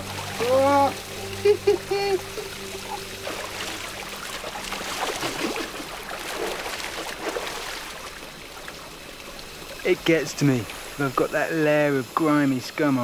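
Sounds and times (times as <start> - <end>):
stream trickling and splashing: 0.0 - 13.0.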